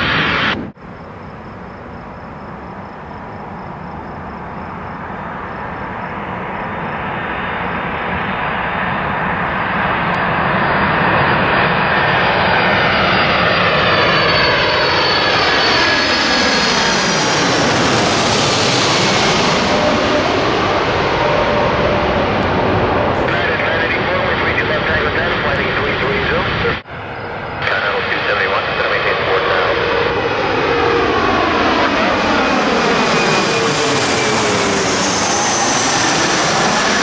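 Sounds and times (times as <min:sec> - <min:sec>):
jet airliner engines whining: 0:00.0 - 0:37.0.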